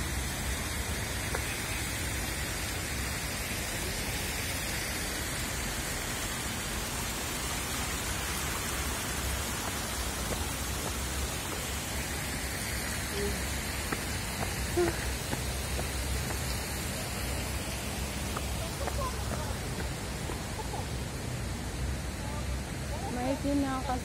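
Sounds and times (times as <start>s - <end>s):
steady rushing hiss: 0.0s - 24.0s.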